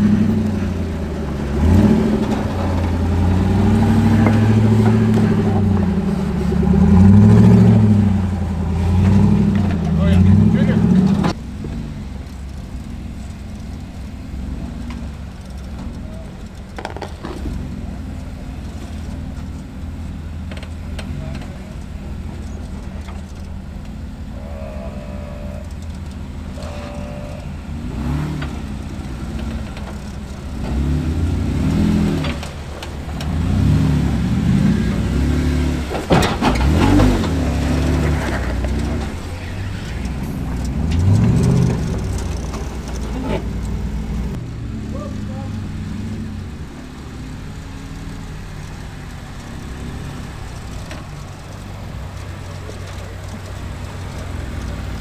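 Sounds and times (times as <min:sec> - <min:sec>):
engine running and revving: 0:00.0 - 0:55.0.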